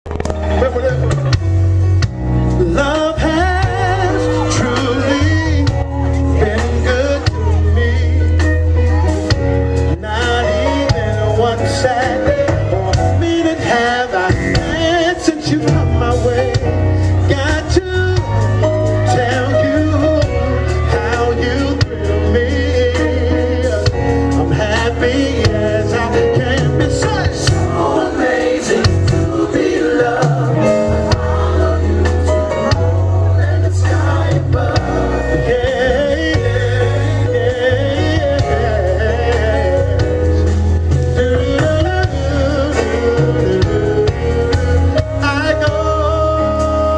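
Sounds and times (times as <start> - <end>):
bass line: 0.0 - 46.9
slow r and b ballad band: 0.1 - 46.9
man singing with vibrato: 2.5 - 46.9.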